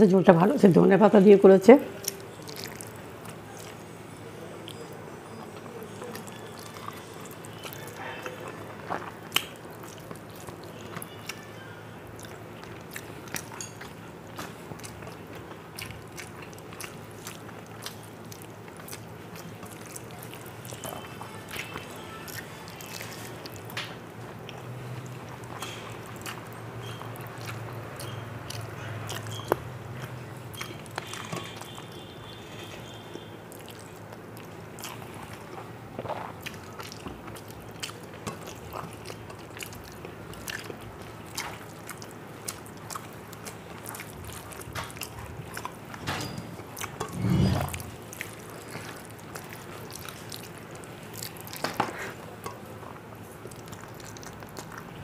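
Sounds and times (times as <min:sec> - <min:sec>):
person chewing with wet clicks: 0:01.8 - 0:46.0, 0:46.6 - 0:47.1, 0:47.7 - 0:55.0.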